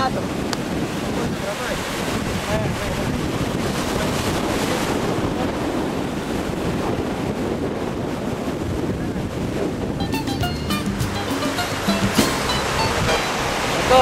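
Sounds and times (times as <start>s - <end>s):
surf breaking: 0.0s - 14.0s
wind buffeting microphone: 0.0s - 14.0s.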